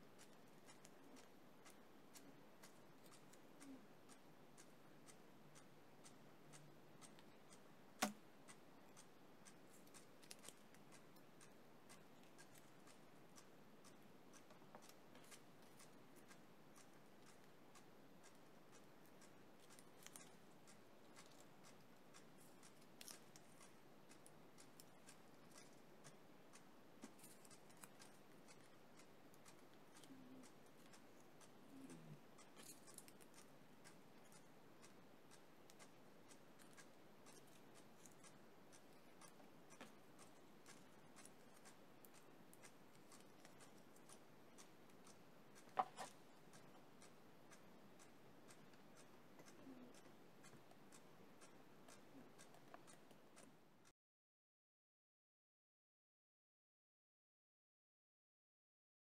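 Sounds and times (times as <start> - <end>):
faint room hiss: 0.0 - 53.9.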